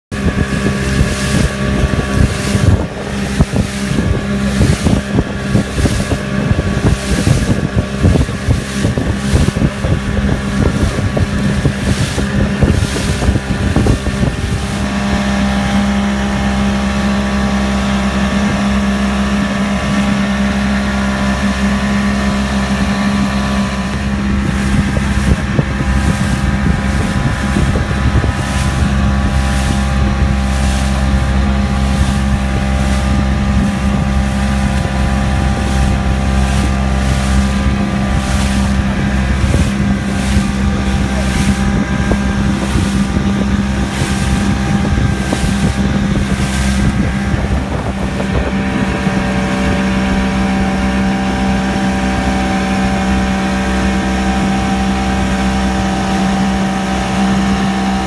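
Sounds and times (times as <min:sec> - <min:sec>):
small boat motor running: 0:00.0 - 0:58.0
sea spray: 0:00.1 - 0:58.0
wind buffeting microphone: 0:00.1 - 0:58.0.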